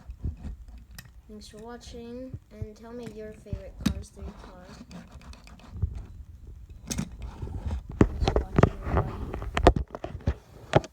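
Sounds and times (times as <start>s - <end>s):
handling knocks and clicks: 0.0s - 10.9s.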